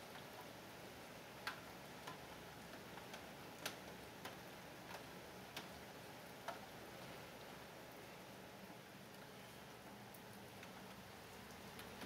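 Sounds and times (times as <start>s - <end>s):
faint steady hiss: 0.0s - 12.0s
raindrops dripping on hard surface: 0.0s - 12.0s.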